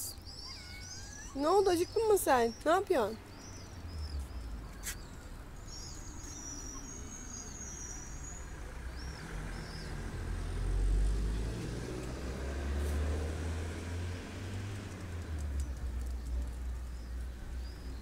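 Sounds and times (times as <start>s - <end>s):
small birds chirping: 0.0s - 13.0s, 14.6s - 18.0s
street traffic rumble: 0.0s - 18.0s.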